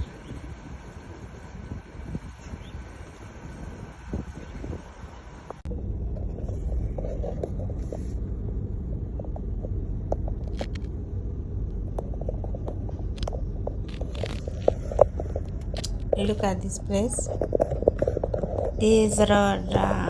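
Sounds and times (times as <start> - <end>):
vehicle and road rumble: 0.0 - 20.0.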